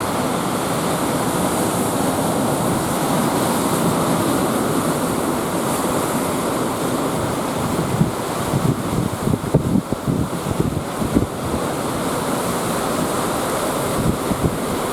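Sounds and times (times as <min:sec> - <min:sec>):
surf breaking: 0:00.0 - 0:14.9.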